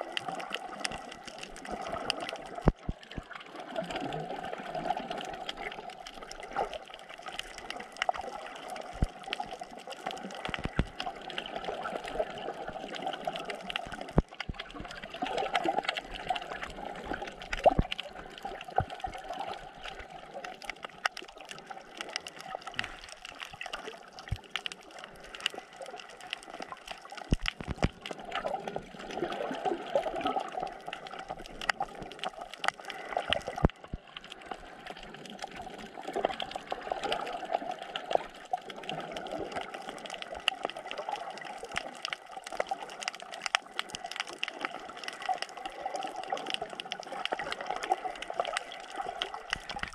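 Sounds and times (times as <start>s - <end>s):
sharp underwater clicks: 0.0s - 3.4s, 4.8s - 29.3s, 30.2s - 34.4s, 37.9s - 49.9s
underwater rush and gurgle: 0.0s - 49.9s.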